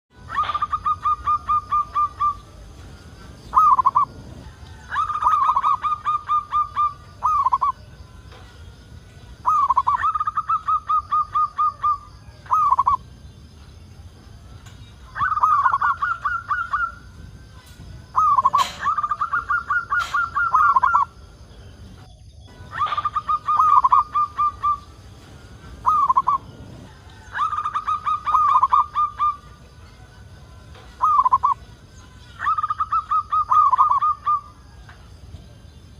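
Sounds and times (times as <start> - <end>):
dove cooing: 0.2 - 7.9, 9.4 - 13.1, 15.0 - 21.4, 22.5 - 29.8, 30.7 - 34.9.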